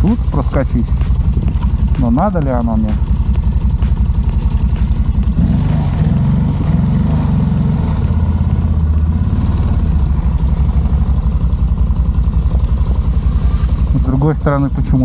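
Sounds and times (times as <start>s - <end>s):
atv engine idling: 0.0s - 15.0s.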